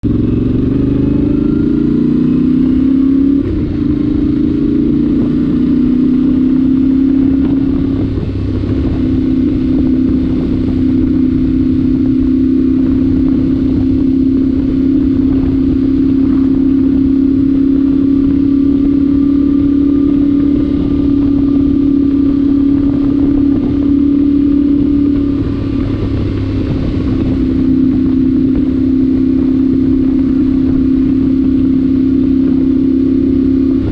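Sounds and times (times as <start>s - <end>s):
motorcycle engine cruising: 0.0s - 33.9s.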